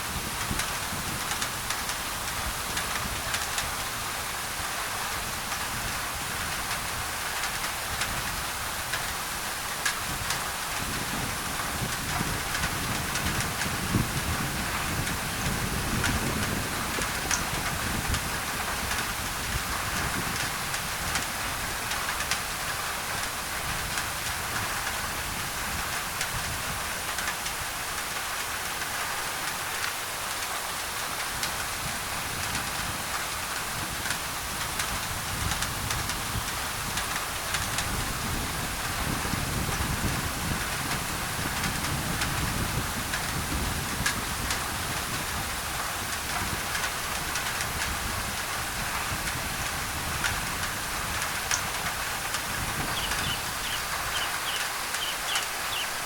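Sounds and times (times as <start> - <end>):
rain drumming on tin roof: 0.0 - 56.0
white noise: 0.0 - 56.0.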